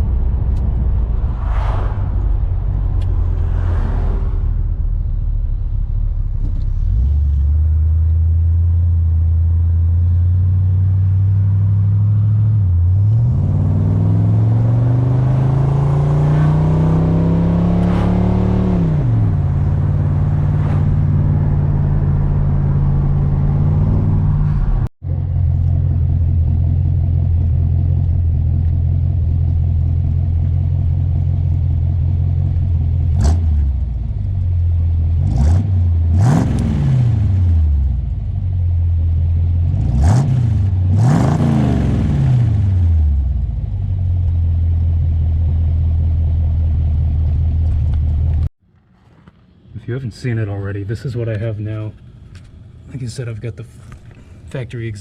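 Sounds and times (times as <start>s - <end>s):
car engine idling and revving: 0.0s - 49.8s.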